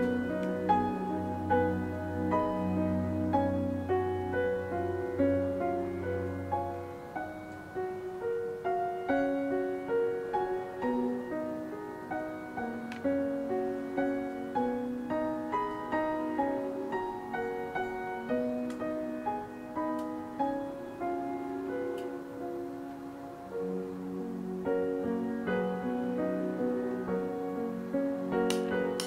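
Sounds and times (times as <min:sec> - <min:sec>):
slow gentle piano melody: 0:00.0 - 0:29.0.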